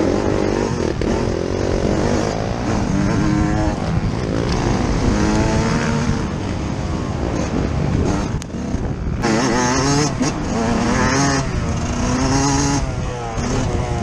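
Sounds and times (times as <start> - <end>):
two-stroke motocross engine revving: 0.0 - 14.0.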